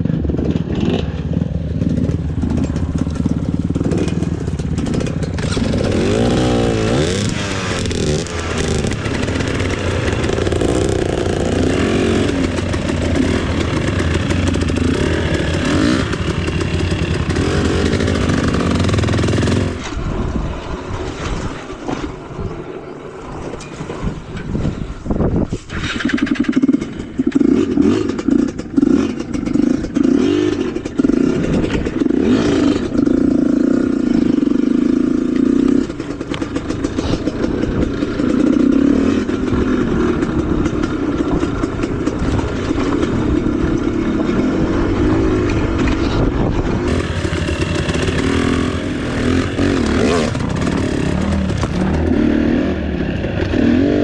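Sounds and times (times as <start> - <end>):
motorcycle engine revving: 0.0 - 20.5, 25.8 - 54.0.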